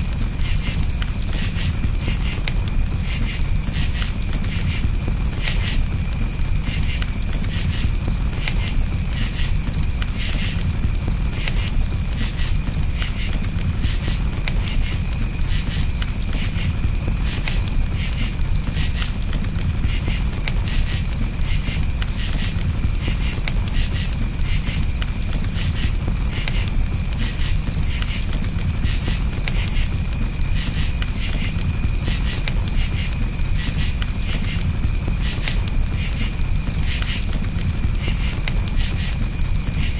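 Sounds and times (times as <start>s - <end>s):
campfire crackling: 0.0s - 39.9s
crickets chirping: 0.0s - 39.9s
low rumble of fire: 0.0s - 39.9s.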